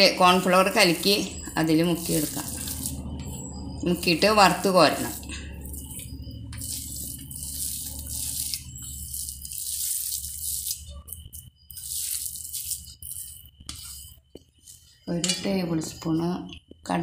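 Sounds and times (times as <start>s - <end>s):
hand squishing wet batter: 0.8s - 15.0s.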